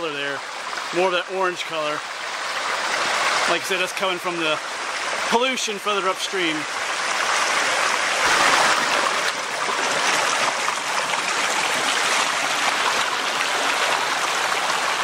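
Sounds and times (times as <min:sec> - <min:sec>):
creek water running over rocks: 0:00.0 - 0:15.0.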